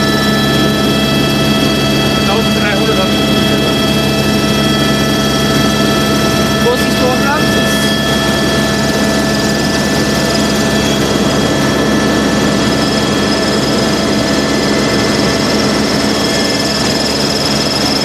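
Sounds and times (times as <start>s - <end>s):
helicopter engine and rotor: 0.0s - 18.0s
higher whine: 0.0s - 18.0s.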